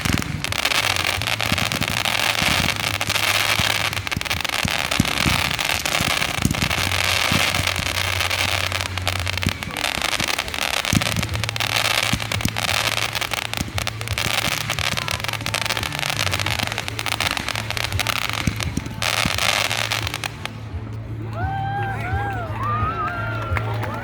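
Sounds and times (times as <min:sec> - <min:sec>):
deep firework thumps: 0:00.0 - 0:20.9
fireworks crackling and popping: 0:00.0 - 0:21.6.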